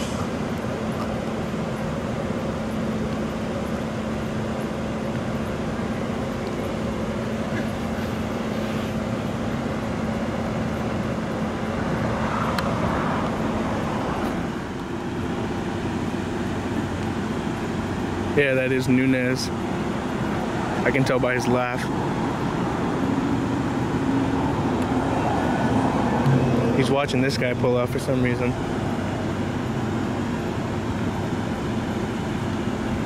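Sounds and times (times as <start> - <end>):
car idling: 0.0 - 33.0.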